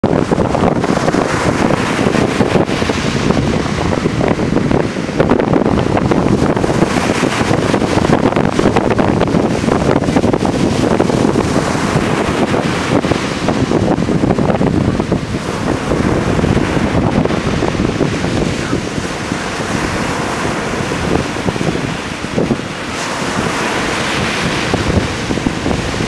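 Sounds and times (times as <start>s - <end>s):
sea waves breaking on beach: 0.0s - 26.0s
wind rumbling on microphone: 0.0s - 26.0s.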